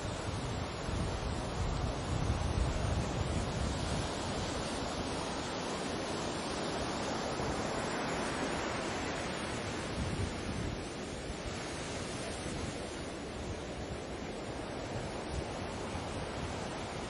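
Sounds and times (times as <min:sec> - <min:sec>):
sea surf washing ashore: 0:00.0 - 0:17.0
wind buffeting microphone: 0:00.0 - 0:17.0.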